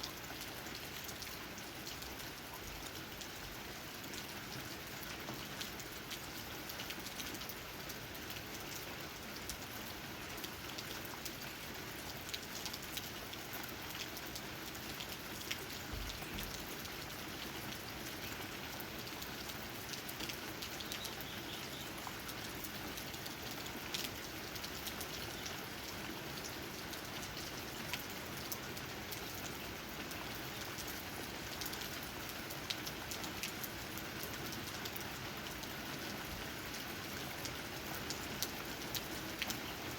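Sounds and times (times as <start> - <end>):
rain tapping on leaves: 0.0 - 39.9.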